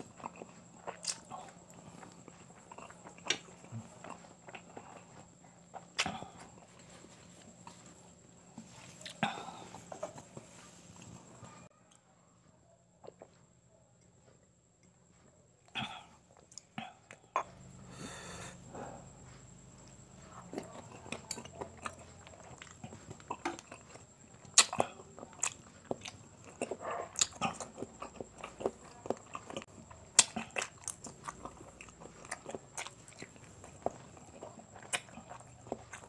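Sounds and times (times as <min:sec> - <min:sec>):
chewing with full mouth: 0:00.0 - 0:11.7, 0:13.0 - 0:36.0.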